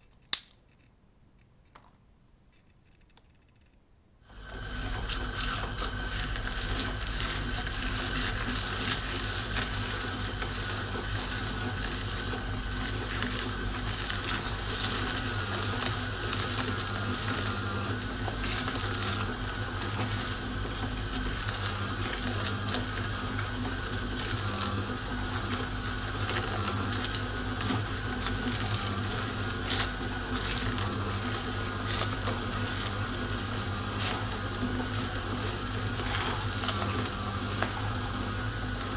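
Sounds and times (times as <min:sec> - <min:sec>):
food crackling and crunching: 0:04.3 - 0:38.9
meat grinder motor whining: 0:04.3 - 0:38.9.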